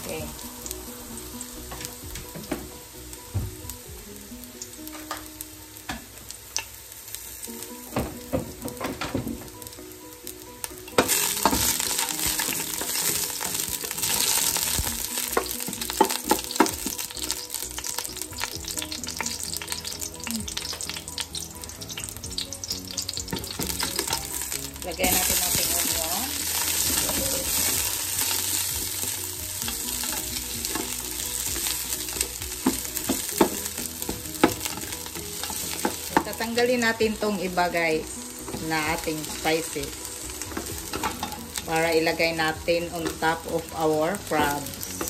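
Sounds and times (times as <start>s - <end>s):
ginger sizzling in hot oil: 0.0s - 45.0s.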